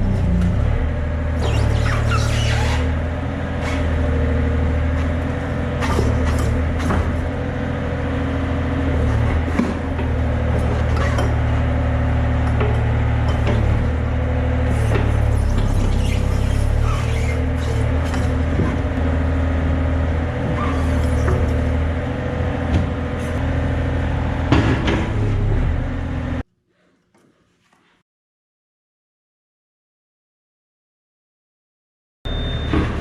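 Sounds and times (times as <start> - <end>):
diesel engine running: 0.0 - 26.4.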